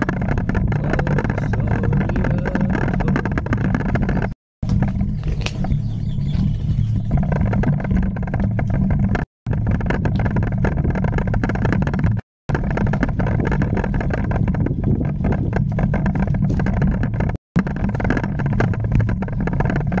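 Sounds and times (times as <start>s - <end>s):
wind buffeting microphone: 0.0s - 11.9s, 12.5s - 18.0s.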